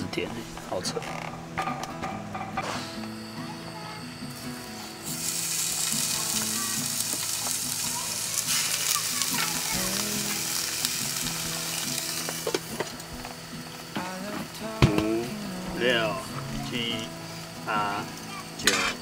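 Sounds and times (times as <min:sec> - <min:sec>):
steak sizzling in a pan: 0:03.0 - 0:19.0.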